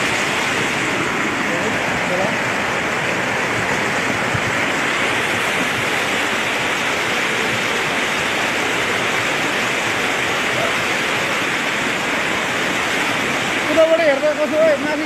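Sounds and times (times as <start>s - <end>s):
floodwater rushing torrent: 0.0s - 15.0s.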